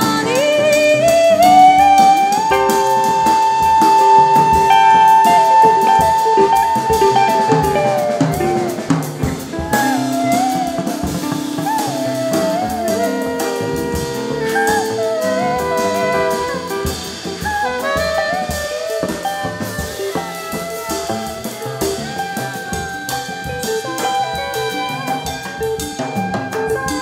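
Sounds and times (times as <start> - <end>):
jazz band playing: 0.0 - 27.0
snare and bass drum: 0.0 - 27.0.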